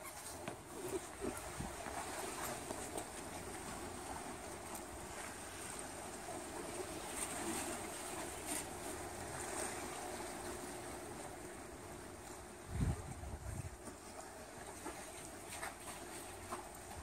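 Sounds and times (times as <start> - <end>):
sea wash: 0.0 - 17.0
wind: 0.0 - 17.0.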